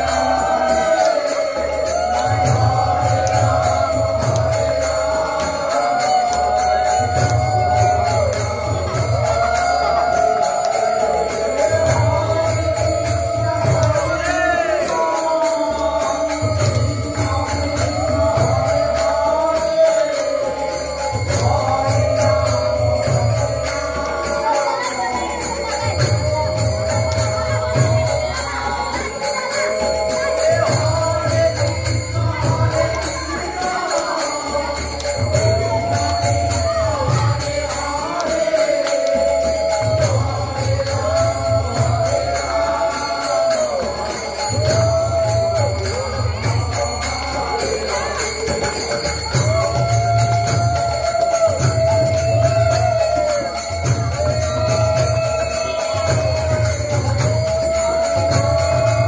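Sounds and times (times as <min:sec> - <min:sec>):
group singing a chant: 0:00.0 - 0:59.0
hand cymbals jingling: 0:00.0 - 0:59.0
pulsing drum: 0:00.0 - 0:59.0.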